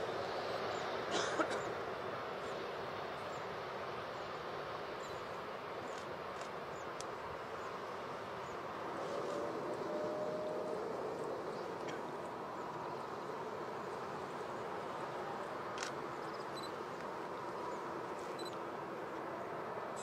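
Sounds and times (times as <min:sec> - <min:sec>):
distant jet airliner rush: 0:00.0 - 0:20.0
rustle: 0:00.0 - 0:20.0.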